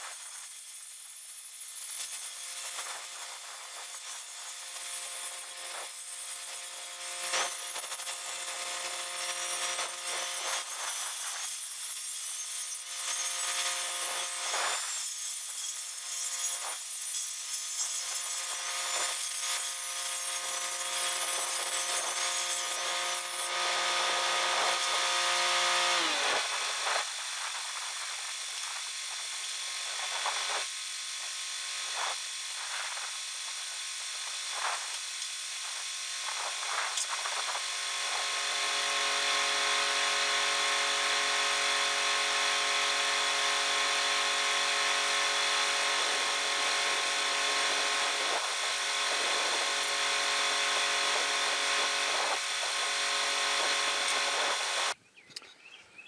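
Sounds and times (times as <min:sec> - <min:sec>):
angle grinder grinding steel: 0:00.0 - 0:33.2, 0:34.5 - 0:55.0.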